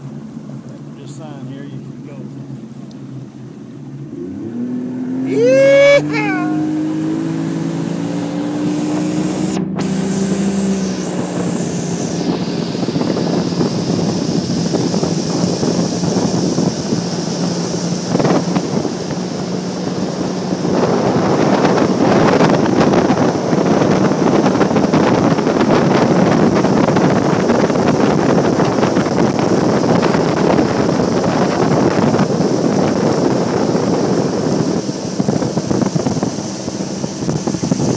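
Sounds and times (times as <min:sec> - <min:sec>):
boat motor running: 0:00.0 - 0:37.9
water rushing past hull: 0:00.0 - 0:37.9
wind buffeting microphone: 0:00.0 - 0:37.9.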